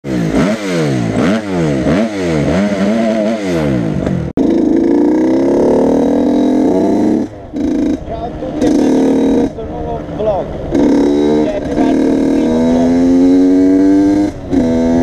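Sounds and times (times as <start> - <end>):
motorcycle engine accelerating: 0.0 - 15.0
motorcycle engine revving: 0.0 - 15.0.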